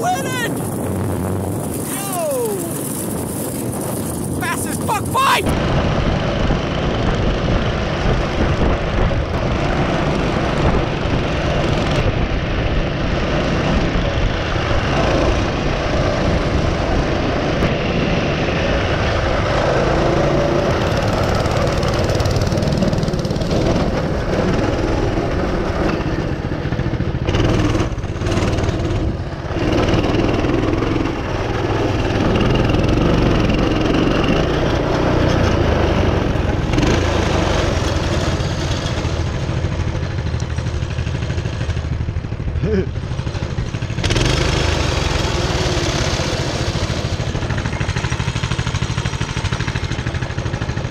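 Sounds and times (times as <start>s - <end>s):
small engine running hard: 0.0s - 50.9s.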